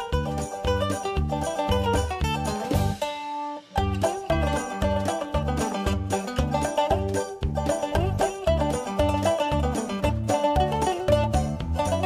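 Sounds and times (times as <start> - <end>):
bass notes: 0.0 - 3.1, 3.8 - 12.0
folk music on plucked strings: 0.0 - 12.0.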